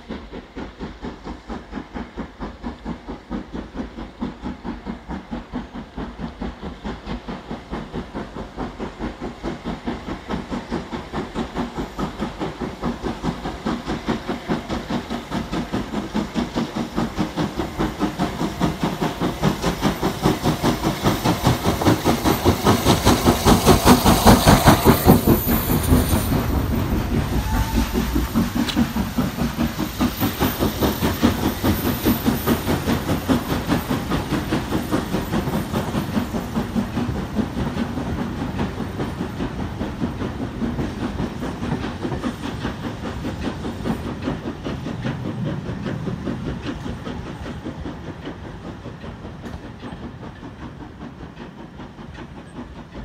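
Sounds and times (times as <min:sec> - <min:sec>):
steam hissing: 0:00.0 - 0:53.0
steam locomotive exhaust beats: 0:00.0 - 0:53.0.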